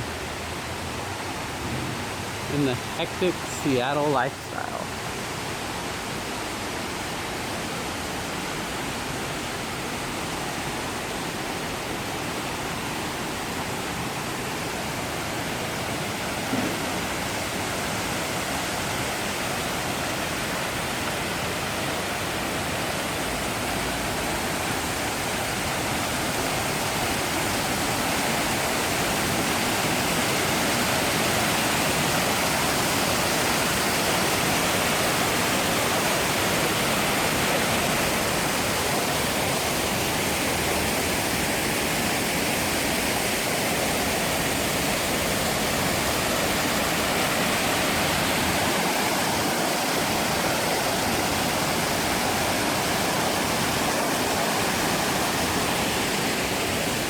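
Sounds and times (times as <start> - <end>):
waterfall pouring into pool: 5.6 - 57.0.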